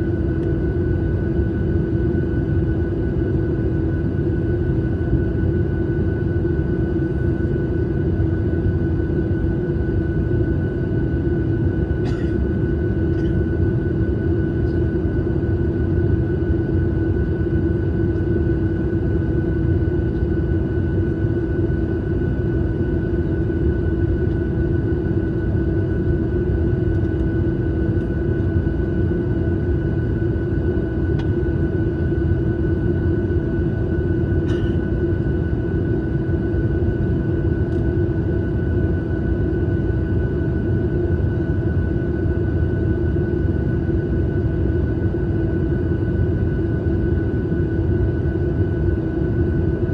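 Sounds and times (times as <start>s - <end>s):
airliner cabin engine drone: 0.0s - 49.9s
faint engine whine: 0.0s - 49.9s.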